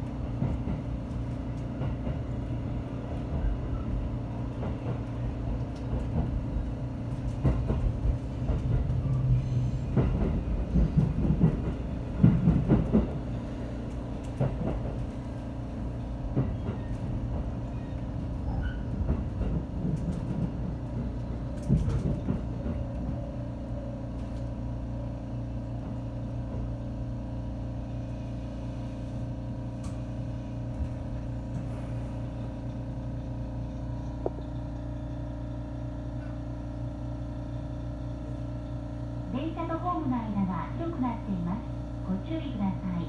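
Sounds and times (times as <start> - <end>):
electric train rumble and hum: 0.0 - 43.0.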